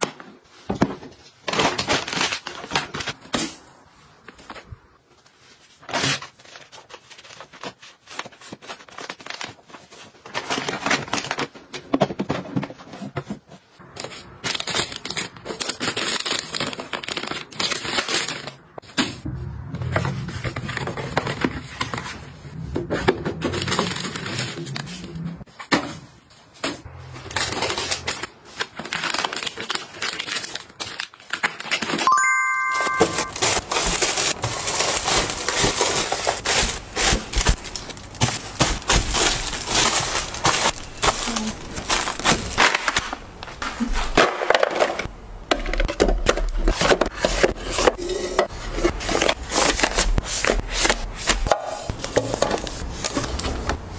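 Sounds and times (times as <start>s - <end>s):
packaging rustling and crinkling: 0.1s - 18.9s, 20.2s - 25.6s, 26.2s - 32.1s, 33.2s - 53.9s.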